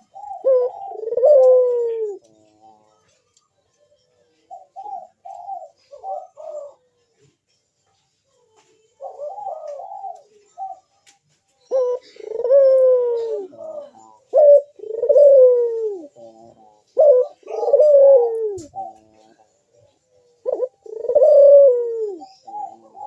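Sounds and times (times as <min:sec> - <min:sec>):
dove cooing: 0:00.0 - 0:03.1, 0:04.4 - 0:06.9, 0:09.0 - 0:11.0, 0:11.6 - 0:23.0.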